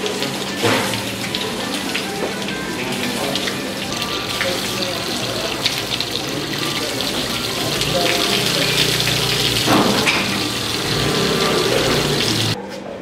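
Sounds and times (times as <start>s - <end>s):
water running from taps: 0.0s - 12.6s
water splashing: 0.0s - 12.6s.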